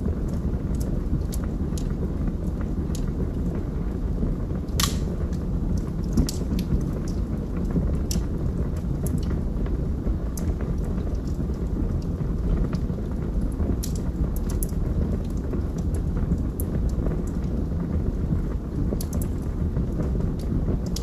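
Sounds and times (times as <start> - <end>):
logs burning with crackles: 0.0 - 21.0.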